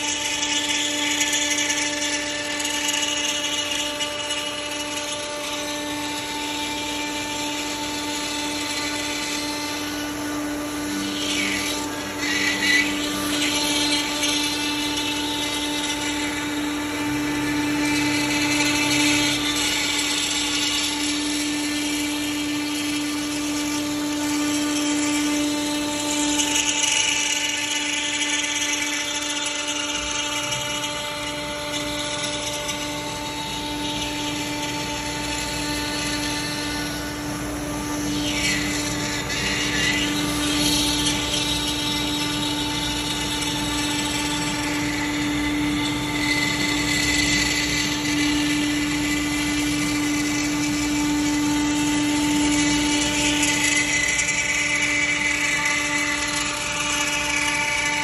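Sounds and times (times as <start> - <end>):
bit cutting wood: 0.0 - 58.0
router spindle whine: 0.0 - 58.0.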